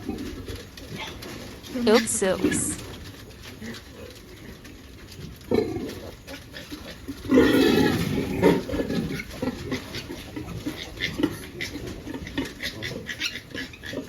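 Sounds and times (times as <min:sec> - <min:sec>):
pigs grunting and squealing: 0:00.0 - 0:14.0.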